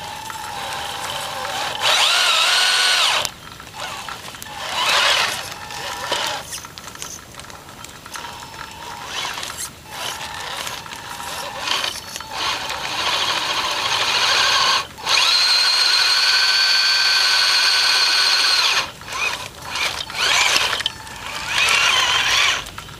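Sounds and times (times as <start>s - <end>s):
electric motor and gearbox whining: 0.0s - 22.9s.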